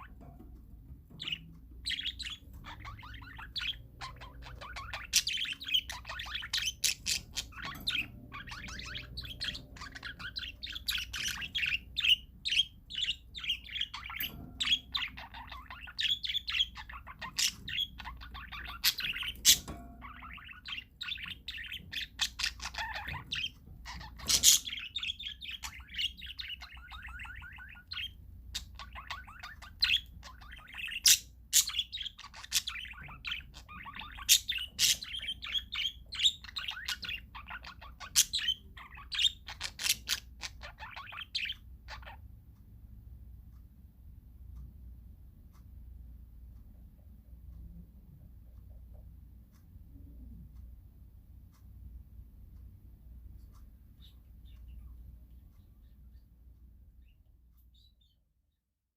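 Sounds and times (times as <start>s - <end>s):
parakeets chirping and chattering: 0.0s - 43.8s, 52.6s - 58.2s.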